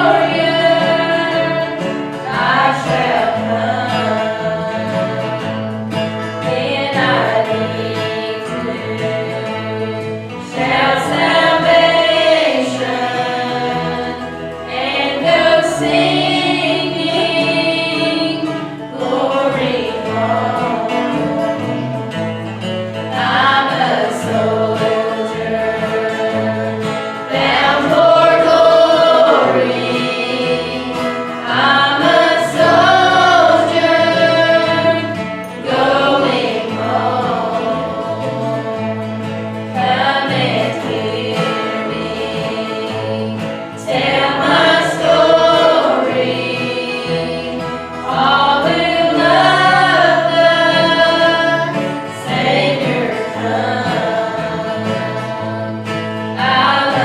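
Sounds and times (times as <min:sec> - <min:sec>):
choir singing a gospel hymn: 0:00.0 - 0:57.0
instrumental accompaniment with bass: 0:00.0 - 0:57.0.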